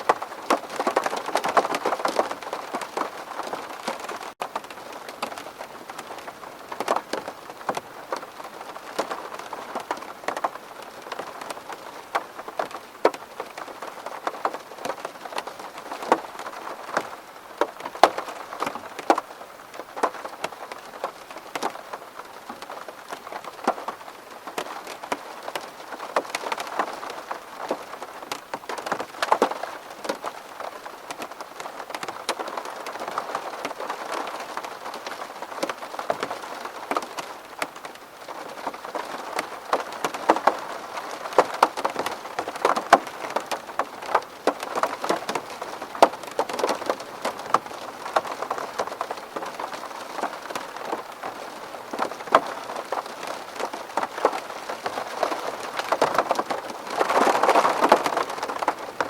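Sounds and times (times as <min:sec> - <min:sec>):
rain on a window pane: 0:00.0 - 0:59.0.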